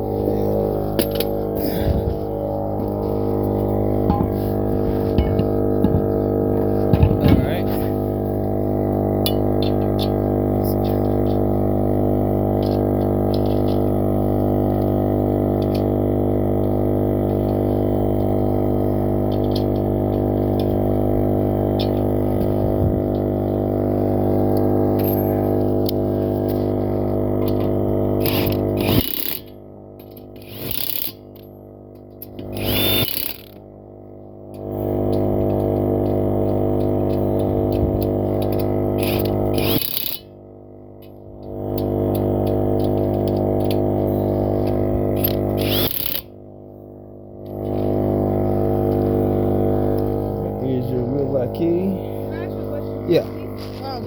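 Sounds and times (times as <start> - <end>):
small motor humming: 0.0 - 54.0.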